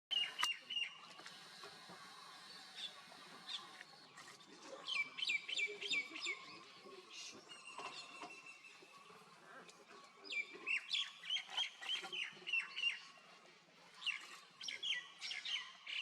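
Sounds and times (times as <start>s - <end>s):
faint outdoor background noise: 0.1s - 16.0s
wild birds chirping: 0.1s - 16.0s.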